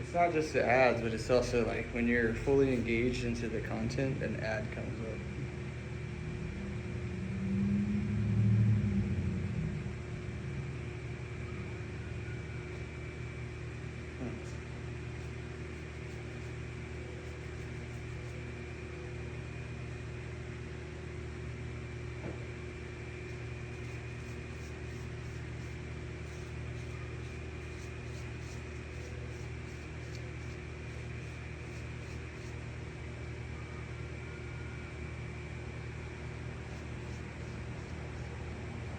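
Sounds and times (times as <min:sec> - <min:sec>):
machine hum with high whine: 0:00.0 - 0:38.9.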